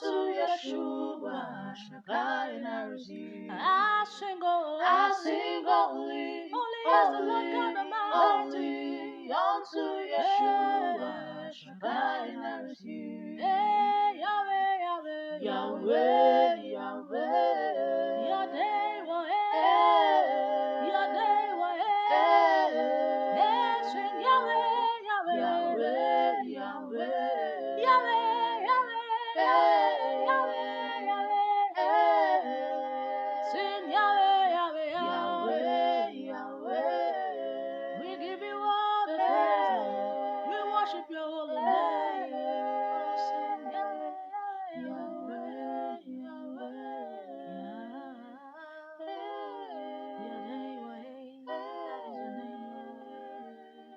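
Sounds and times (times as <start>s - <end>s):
woman singing vocal harmony: 0.0s - 53.9s.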